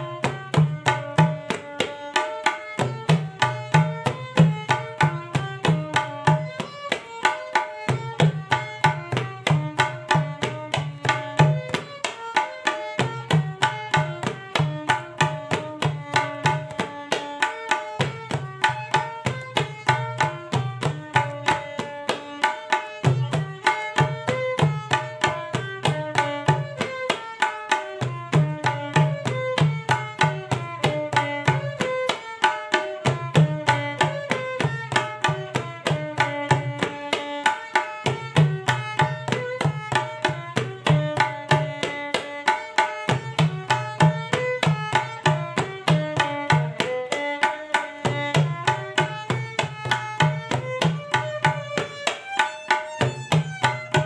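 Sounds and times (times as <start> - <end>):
tabla playing: 0.0 - 54.0.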